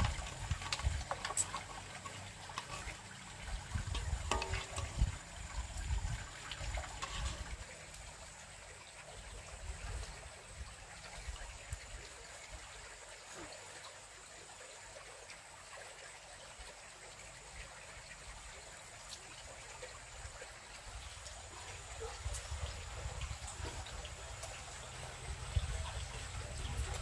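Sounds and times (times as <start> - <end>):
water trickling: 0.0 - 27.0.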